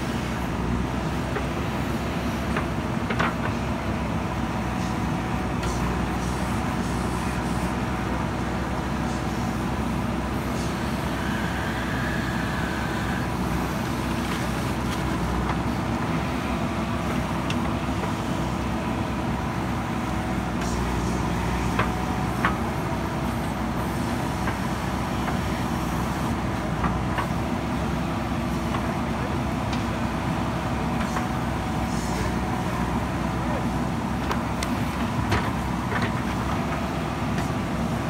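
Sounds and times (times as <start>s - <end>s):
diesel engine running under load: 0.0s - 38.0s.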